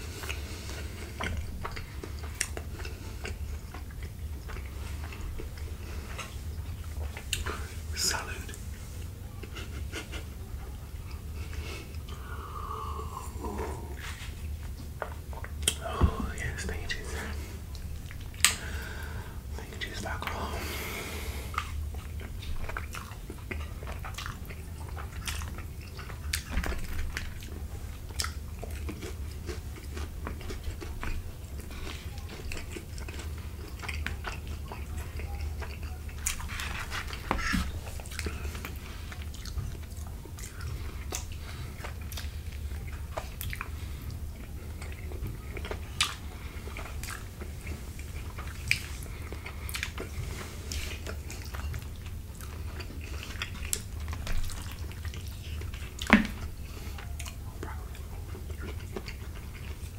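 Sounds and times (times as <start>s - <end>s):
low steady hum: 0.0s - 59.9s
wet chewing with mouth clicks: 0.0s - 59.9s.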